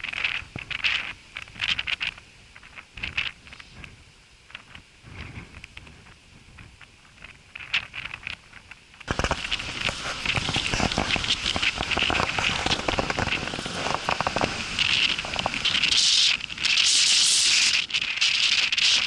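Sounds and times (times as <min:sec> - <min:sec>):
dry grass crackling and rustling: 0:00.0 - 0:19.0.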